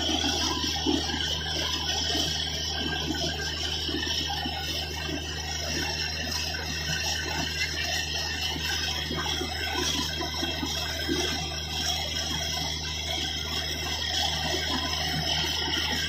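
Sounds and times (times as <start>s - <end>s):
drilling rig droning: 0.0s - 16.0s.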